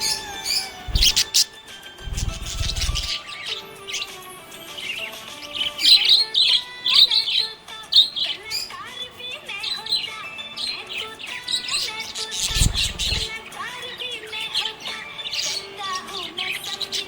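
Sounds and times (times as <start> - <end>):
budgerigar chirping and warbling: 0.0 - 17.0.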